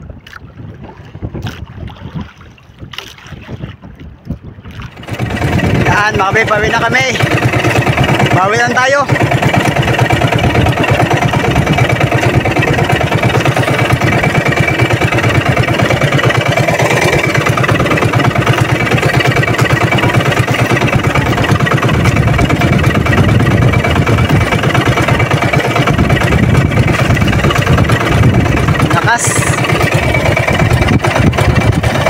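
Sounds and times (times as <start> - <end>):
boat engine chugging: 0.0 - 32.0.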